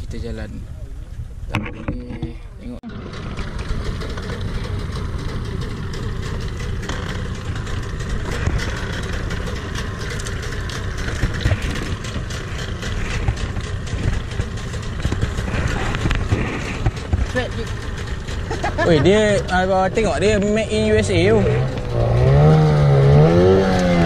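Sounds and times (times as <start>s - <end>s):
outboard motor idling: 2.4s - 24.0s.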